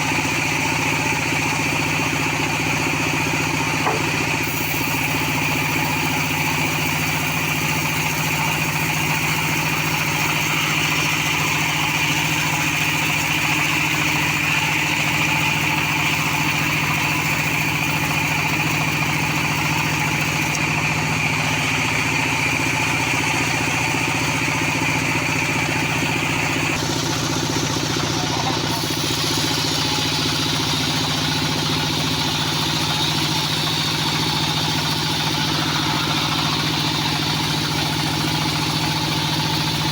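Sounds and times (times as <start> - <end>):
band saw droning and whining: 0.0 - 39.9.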